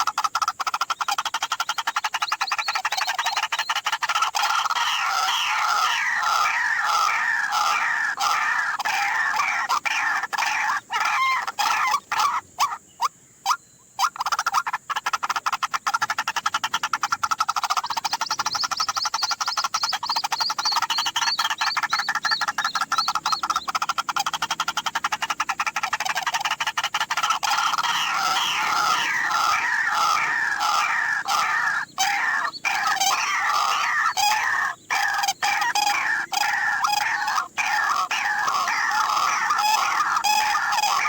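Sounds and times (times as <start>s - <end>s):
waterhen croaking calls: 0.0s - 41.0s.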